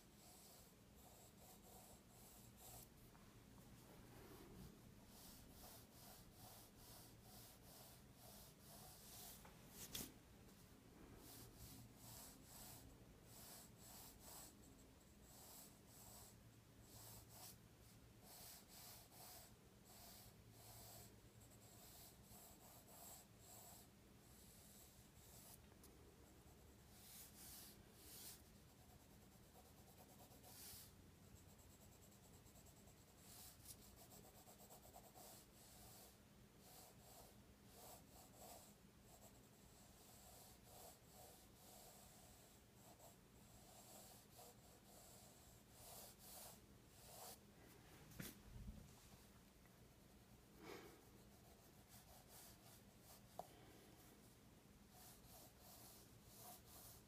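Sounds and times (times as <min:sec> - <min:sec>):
pencil scratching on paper: 0:00.0 - 0:03.0, 0:05.0 - 0:10.1, 0:11.2 - 0:25.7, 0:26.3 - 0:47.4, 0:51.1 - 0:53.6, 0:54.2 - 0:57.0.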